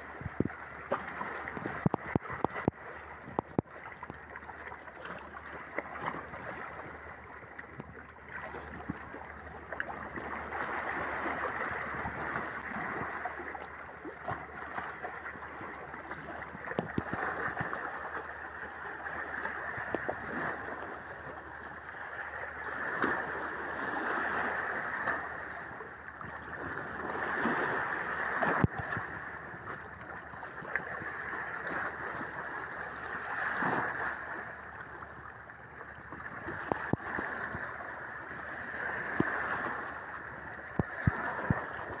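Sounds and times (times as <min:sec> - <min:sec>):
seawater washing over rocks: 0:00.0 - 0:21.2, 0:22.2 - 0:34.7, 0:36.2 - 0:42.0.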